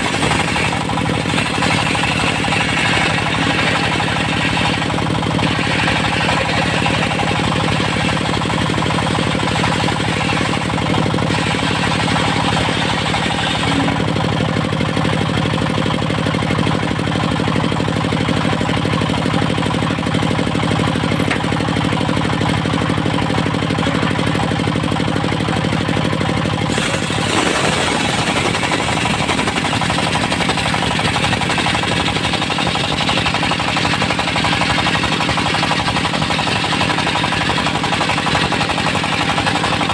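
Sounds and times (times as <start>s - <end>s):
circular sawmill running: 0.0s - 39.9s
engine pulsing rapidly: 0.0s - 39.9s.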